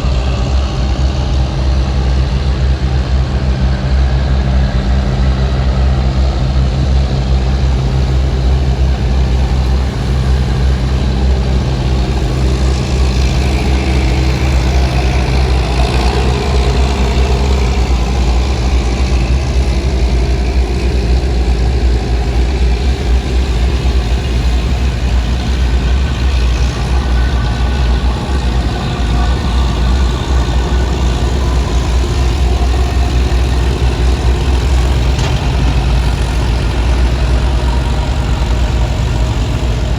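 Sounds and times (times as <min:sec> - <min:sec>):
boat diesel engine humming: 0:00.0 - 0:39.9.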